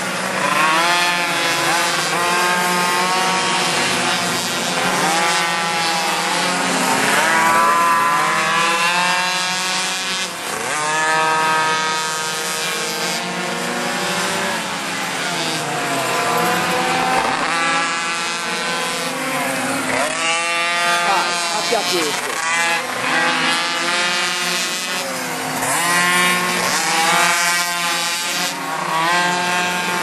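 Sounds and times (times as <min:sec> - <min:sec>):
two-stroke engines racing: 0:00.0 - 0:30.0.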